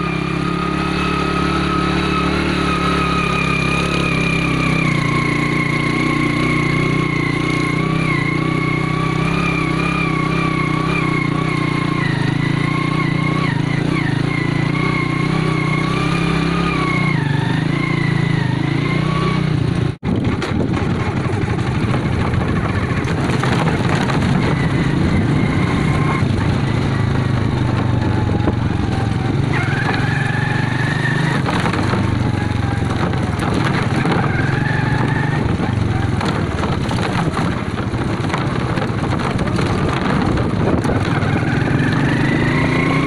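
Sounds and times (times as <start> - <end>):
motorcycle clattering over bumps: 0.0 - 18.9, 19.6 - 43.0
small motorcycle engine running: 0.0 - 43.0.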